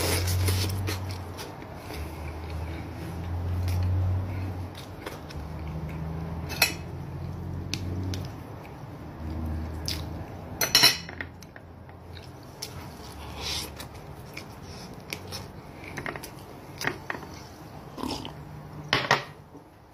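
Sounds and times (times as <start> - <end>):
person chewing: 0.0 - 10.6, 11.3 - 18.5.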